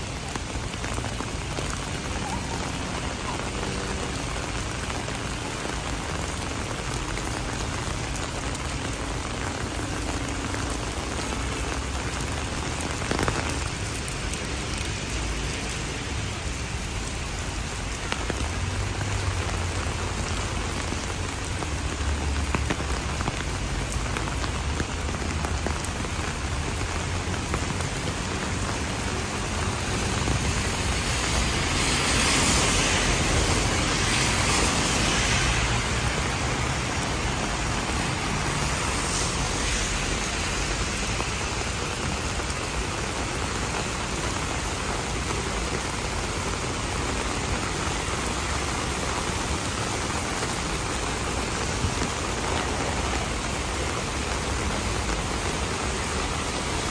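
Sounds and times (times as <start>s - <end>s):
rain on a street: 0.0s - 56.9s.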